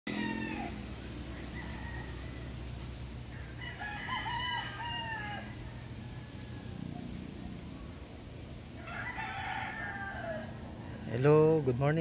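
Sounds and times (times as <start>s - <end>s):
rooster crowing: 0.1s - 8.0s, 8.7s - 12.0s.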